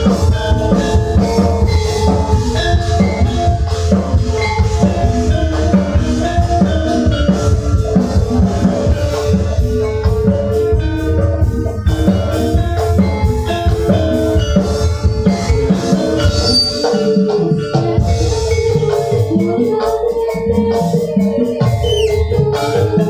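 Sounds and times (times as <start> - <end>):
drum strokes: 0.0 - 23.0
ringing metallophone notes: 0.0 - 23.0.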